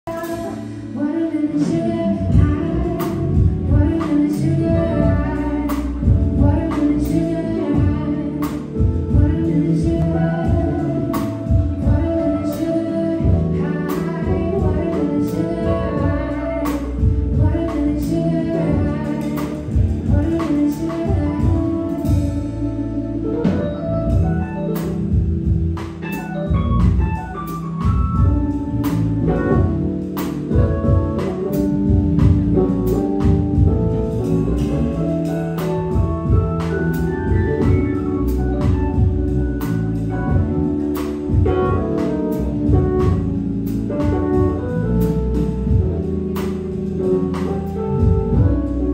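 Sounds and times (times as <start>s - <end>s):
drum kit steady beat: 0.0s - 48.9s
organ-toned keyboard: 0.2s - 48.9s.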